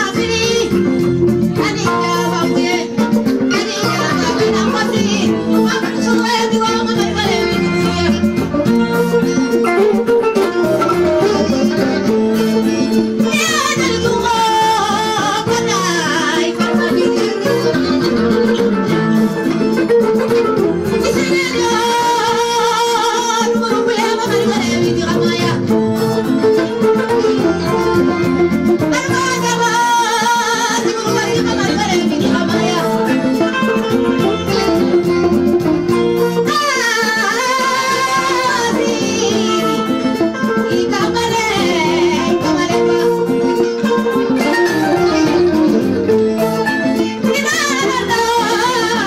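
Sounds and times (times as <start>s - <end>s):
woman singing through microphone: 0.0s - 8.9s, 9.6s - 35.3s, 36.2s - 49.0s
amplified guitar: 0.0s - 49.0s.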